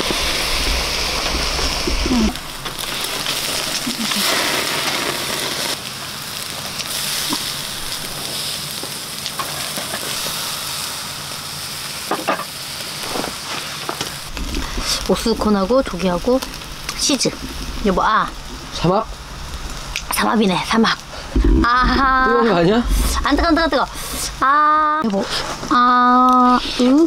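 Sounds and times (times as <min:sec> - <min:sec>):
food sizzling on a grill: 0:00.0 - 0:27.0.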